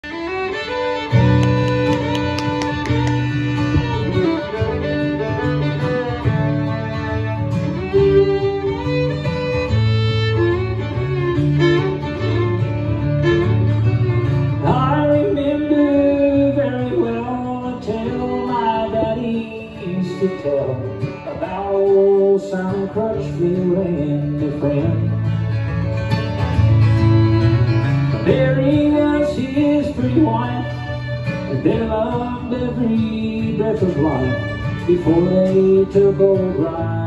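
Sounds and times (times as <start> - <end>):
fiddle melody: 0.0 - 37.0
strummed acoustic guitar: 0.0 - 37.0.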